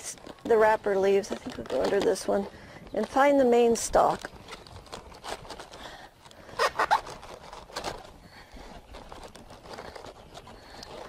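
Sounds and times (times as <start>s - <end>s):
cabbage leaves crinkling: 0.0s - 11.0s.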